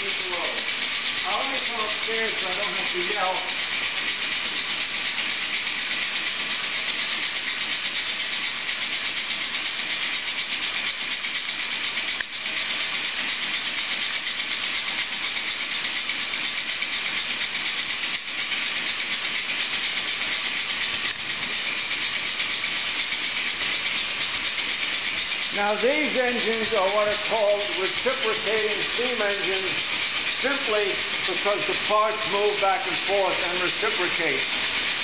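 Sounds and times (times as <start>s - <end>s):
loud hiss of steam: 0.0s - 35.0s
steam engine running: 0.0s - 35.0s.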